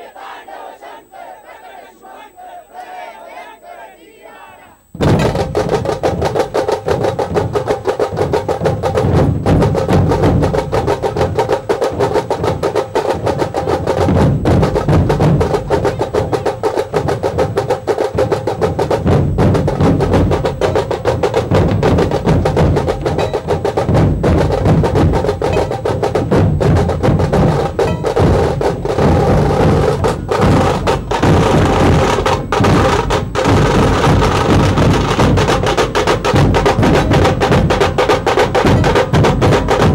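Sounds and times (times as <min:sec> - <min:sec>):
rapid dense drum strokes: 0:04.8 - 0:39.9
barrel drums beaten with sticks: 0:04.9 - 0:39.9.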